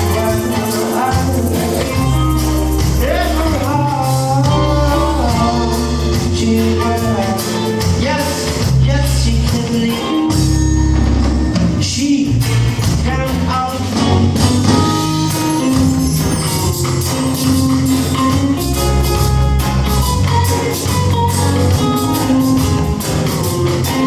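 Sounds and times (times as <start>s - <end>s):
band music with bass and percussion: 0.0s - 24.0s.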